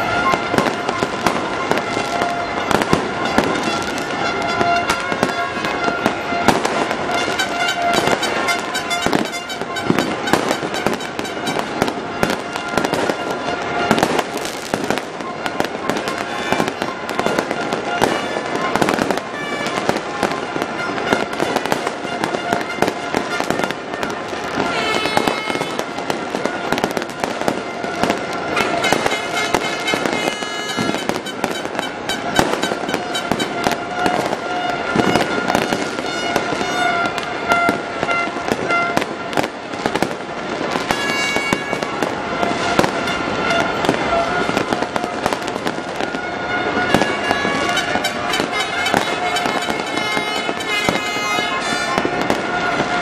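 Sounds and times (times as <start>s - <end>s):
fireworks bangs and pops: 0.0s - 53.0s.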